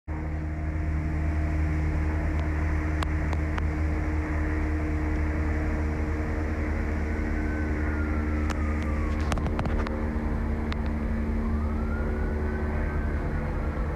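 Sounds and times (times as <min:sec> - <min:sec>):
city background noise: 0:00.1 - 0:13.9
distant siren wailing: 0:00.1 - 0:13.9
low mechanical hum: 0:00.1 - 0:13.9.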